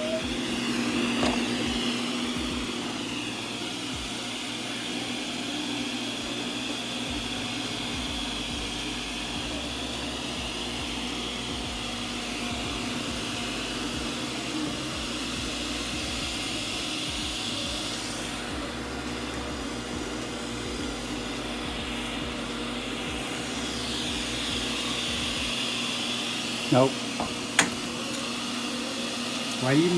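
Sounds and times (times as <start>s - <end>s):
robot vacuum running: 0.0s - 29.9s.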